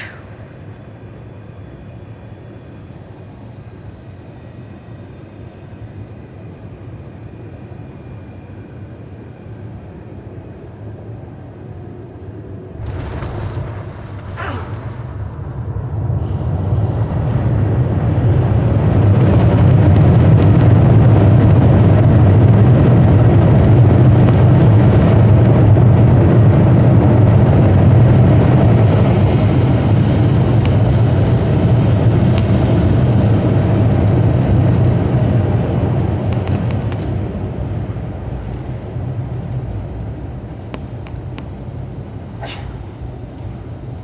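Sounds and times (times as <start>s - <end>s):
jet engines in reverse thrust: 0.0s - 44.0s.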